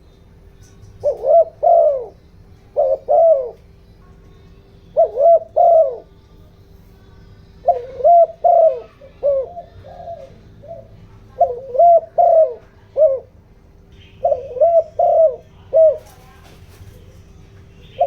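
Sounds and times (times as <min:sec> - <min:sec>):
dove cooing: 0:00.6 - 0:06.2, 0:07.6 - 0:13.4, 0:14.0 - 0:18.0.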